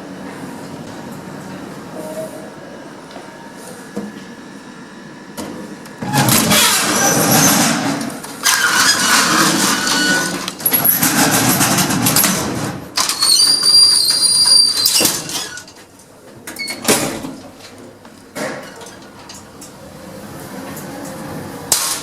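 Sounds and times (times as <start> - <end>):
lift doors sliding and rattling: 0.0 - 22.0.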